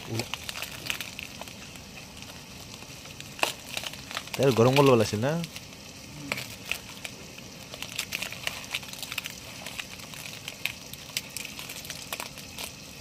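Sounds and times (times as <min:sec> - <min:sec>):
banana leaves crinkling: 0:00.0 - 0:13.0.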